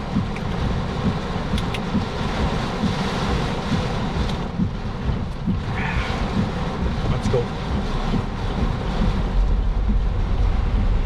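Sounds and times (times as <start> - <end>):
heavy rain on a vehicle: 0.0 - 11.0
low rumble: 0.0 - 11.0
storm wind: 0.0 - 11.0.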